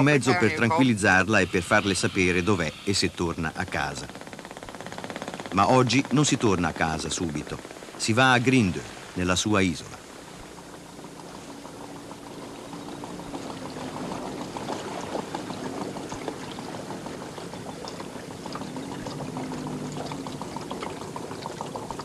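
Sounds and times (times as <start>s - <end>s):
outboard motor running: 0.0s - 22.0s
water sloshing and bubbling: 0.0s - 22.0s.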